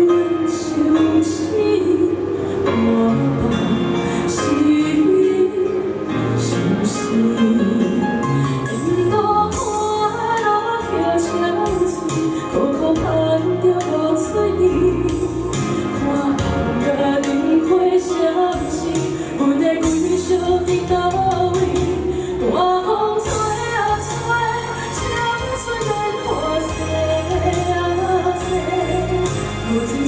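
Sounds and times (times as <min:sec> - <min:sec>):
amplified backing music: 0:00.0 - 0:30.0
woman singing a pop ballad: 0:00.0 - 0:30.0.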